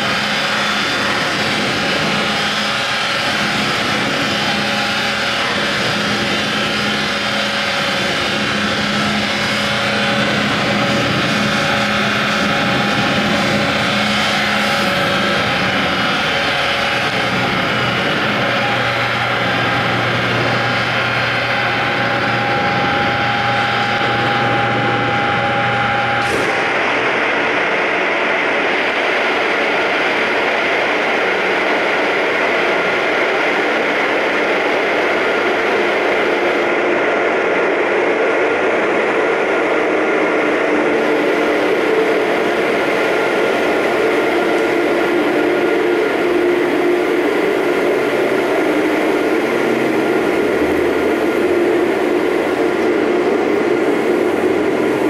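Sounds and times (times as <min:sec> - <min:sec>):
machinery drone: 0:00.0 - 0:55.0.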